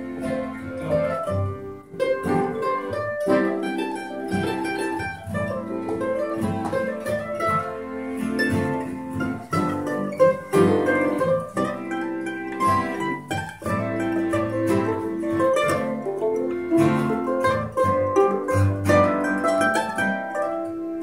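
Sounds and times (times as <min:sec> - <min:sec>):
acoustic guitar picking: 0:00.0 - 0:21.0.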